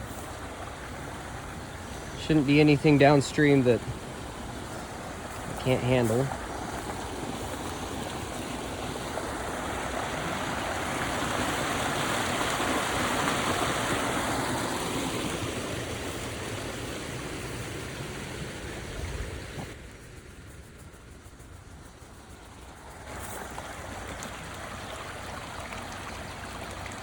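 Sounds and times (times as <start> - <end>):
water rushing down a creek: 0.0 - 19.8, 22.0 - 27.0.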